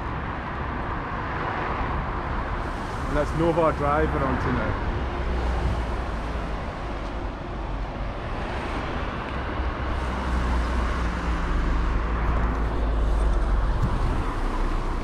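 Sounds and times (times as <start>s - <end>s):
street traffic noise: 0.0s - 15.0s
vehicle engine running nearby: 0.0s - 15.0s
steady low rumble: 2.0s - 15.0s.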